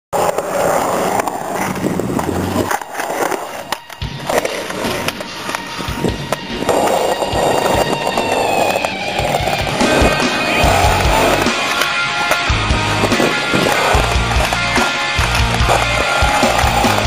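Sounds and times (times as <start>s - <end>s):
skateboard wheels rolling on pavement: 0.1s - 17.0s.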